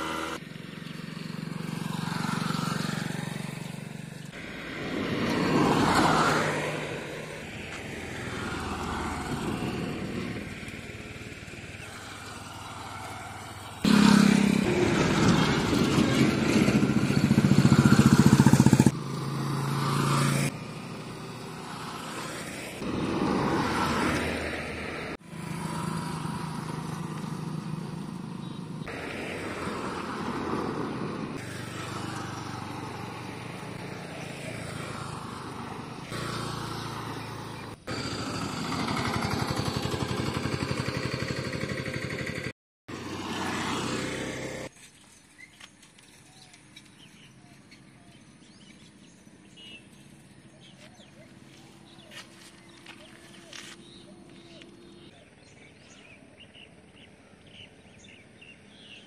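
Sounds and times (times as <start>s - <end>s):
cars and motorcycles passing: 0.0s - 44.8s, 46.6s - 59.0s.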